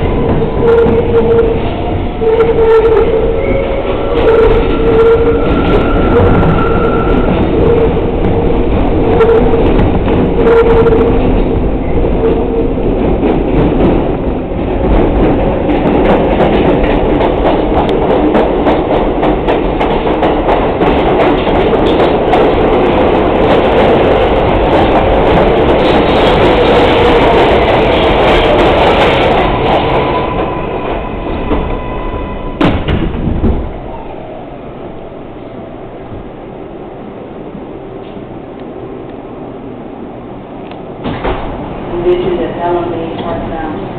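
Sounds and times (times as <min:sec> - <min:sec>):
subway train running: 0:00.0 - 0:43.9.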